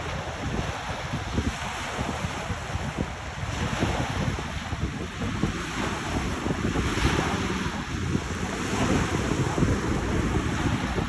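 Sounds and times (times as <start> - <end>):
small waves breaking on beach: 0.0 - 11.0
wind buffeting microphone: 0.0 - 11.0.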